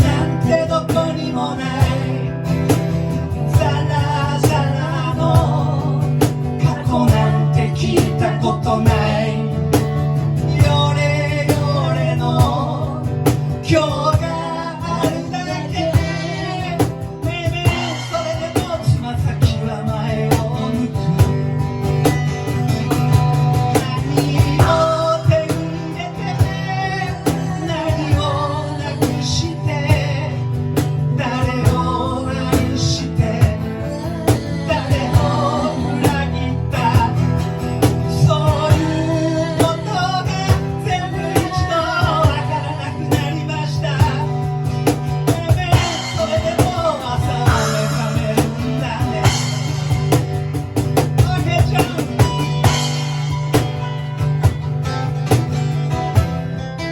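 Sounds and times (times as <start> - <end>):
person singing: 0.0 - 50.4, 51.0 - 54.1
rock band playing: 0.0 - 56.9.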